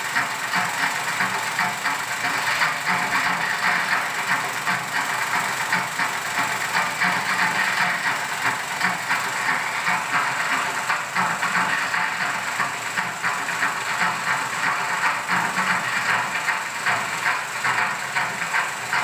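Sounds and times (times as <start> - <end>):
film projector clattering: 0.0 - 19.0.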